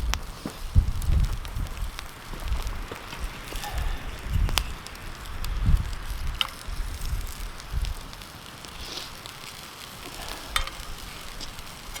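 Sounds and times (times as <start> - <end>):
fire crackles: 0.0 - 12.0
food sizzling in a frying pan: 0.0 - 12.0.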